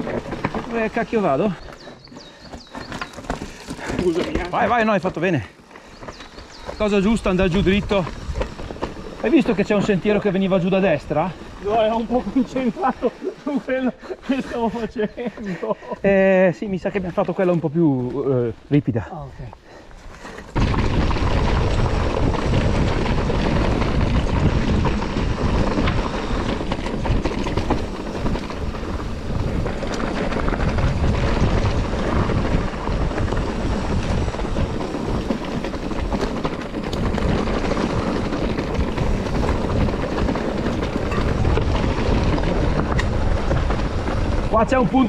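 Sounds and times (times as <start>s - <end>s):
mountain bike rumbling and rattling: 0.0s - 45.0s
wind buffeting microphone: 5.8s - 17.1s, 20.1s - 45.0s.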